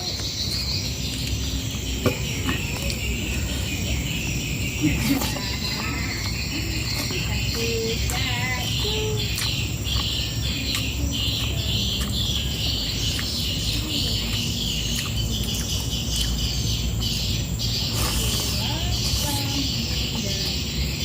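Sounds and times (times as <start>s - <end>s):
crickets chirping: 0.0s - 21.0s
low background rumble: 0.0s - 21.0s.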